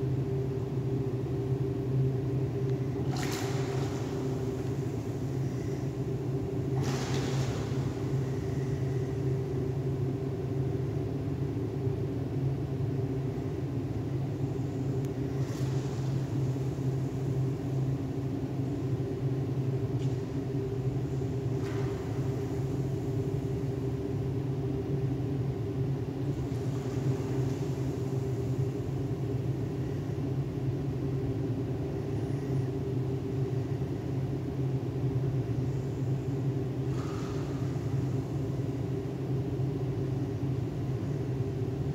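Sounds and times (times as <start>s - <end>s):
machinery hum and rumble: 0.0s - 41.9s.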